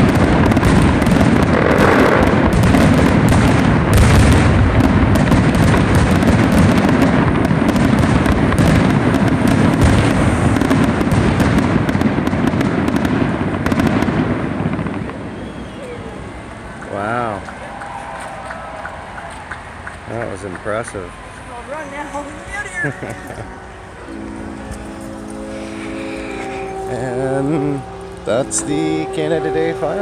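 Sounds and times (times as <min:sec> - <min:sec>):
fireworks booming: 0:00.0 - 0:18.0, 0:19.0 - 0:30.0
fireworks crackling: 0:00.0 - 0:30.0.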